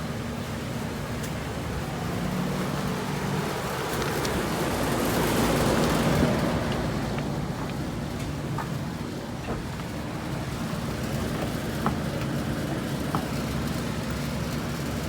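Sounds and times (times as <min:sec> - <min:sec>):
traffic noise: 0:00.0 - 0:15.0
vehicle engine running: 0:00.0 - 0:15.0.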